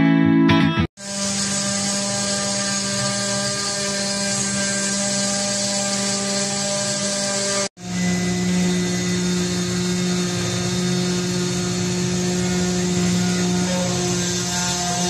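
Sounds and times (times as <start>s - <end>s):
router spindle humming: 1.0s - 15.0s.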